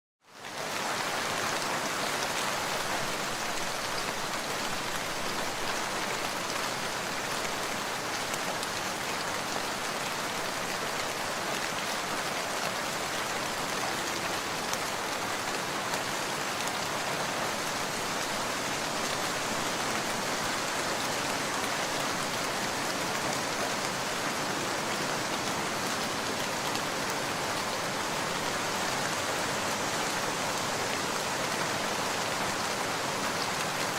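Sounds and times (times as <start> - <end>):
heavy rain falling: 0.3 - 33.9.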